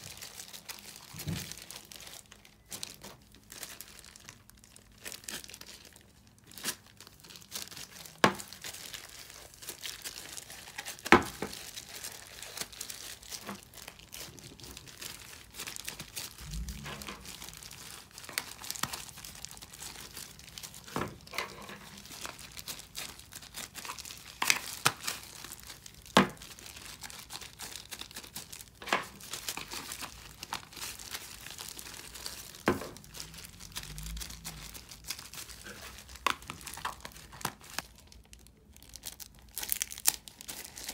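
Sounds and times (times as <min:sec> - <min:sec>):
plastic gloves crinkling: 0:00.0 - 0:40.9.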